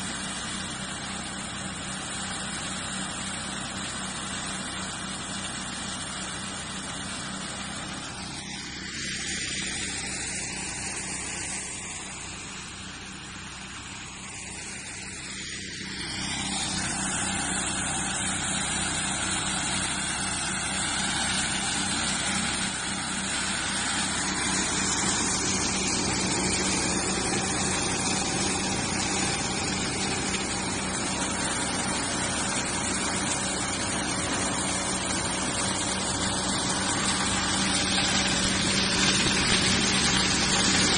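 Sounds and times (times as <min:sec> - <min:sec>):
thresher running: 0:00.0 - 0:40.9.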